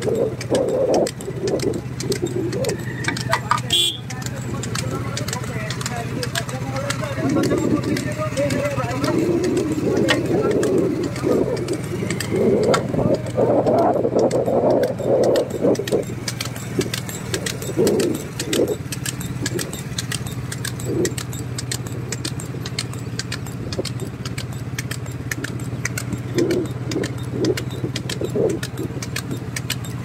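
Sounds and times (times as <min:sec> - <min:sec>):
fast continuous clicking clatter: 0:00.0 - 0:30.0
motorcycle engine running: 0:00.0 - 0:30.0.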